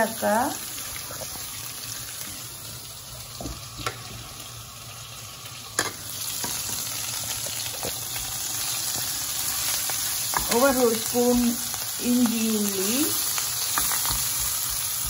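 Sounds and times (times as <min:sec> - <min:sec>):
spices sizzling in butter: 0:00.0 - 0:15.0.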